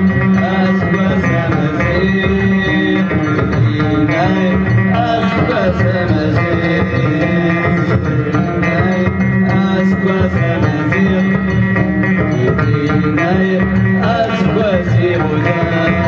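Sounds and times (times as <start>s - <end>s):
drums: 0.0s - 16.0s
person singing melodically: 0.0s - 16.0s
sustained instrumental tones: 0.0s - 16.0s.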